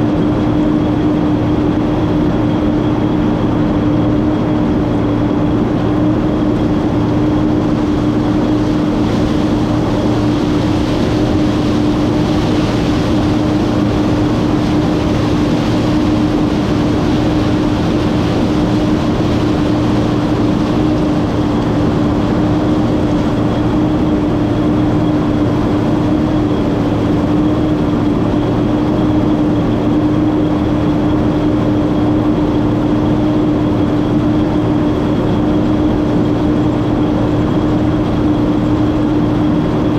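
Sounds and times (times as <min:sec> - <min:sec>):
combine harvester droning: 0:00.0 - 0:39.9
faint high whine: 0:00.0 - 0:39.9.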